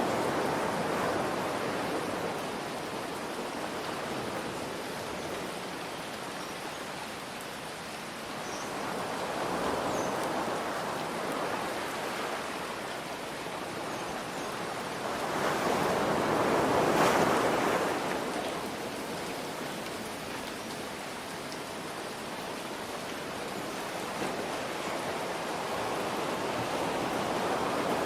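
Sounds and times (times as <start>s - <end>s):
ocean waves washing ashore: 0.0s - 28.0s
rain hiss: 0.0s - 28.0s.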